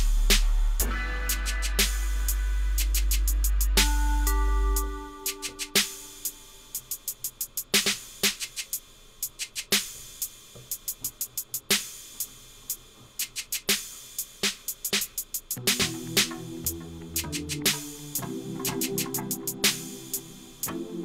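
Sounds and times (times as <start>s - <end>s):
hi-hat ticks: 0.0s - 21.0s.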